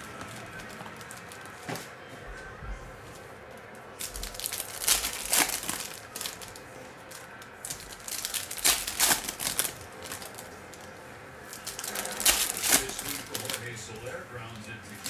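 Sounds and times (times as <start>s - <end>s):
plastic wrapper crinkling: 0.0s - 2.4s, 3.1s - 15.0s.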